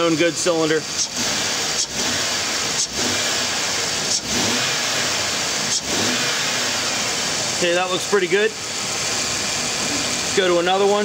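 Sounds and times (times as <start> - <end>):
car engine revving: 0.0 - 11.0
hissing engine intake: 0.1 - 11.0.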